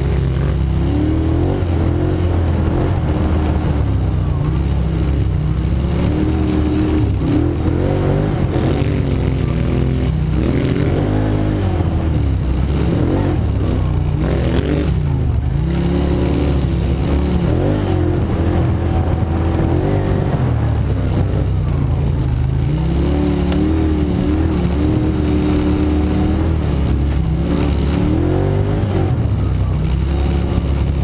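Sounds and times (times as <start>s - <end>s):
quad bike engine revving: 0.0s - 31.0s.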